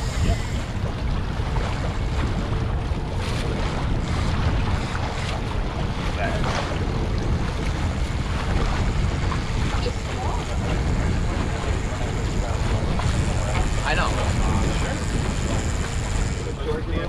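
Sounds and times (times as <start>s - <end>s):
boat engine rumble: 0.0s - 17.0s
water washing along hull: 0.0s - 17.0s
wind on microphone: 0.0s - 17.0s.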